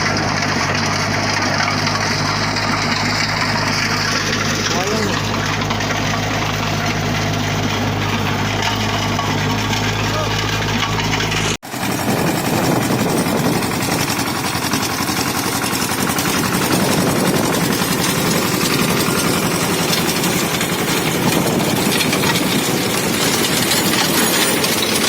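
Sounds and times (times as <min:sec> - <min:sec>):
diesel tractor engine knocking: 0:00.0 - 0:25.0.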